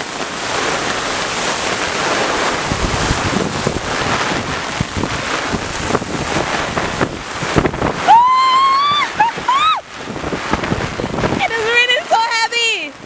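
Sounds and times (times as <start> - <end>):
raindrops knocking on umbrella: 0.0 - 11.8
heavy rain pouring: 0.0 - 13.0.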